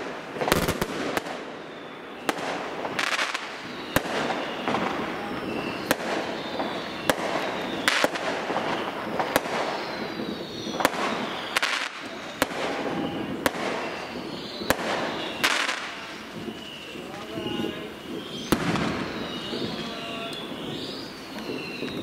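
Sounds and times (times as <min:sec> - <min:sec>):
fireworks bangs: 0:00.0 - 0:22.0
fireworks crackle: 0:00.0 - 0:22.0
falling whistles: 0:01.2 - 0:22.0.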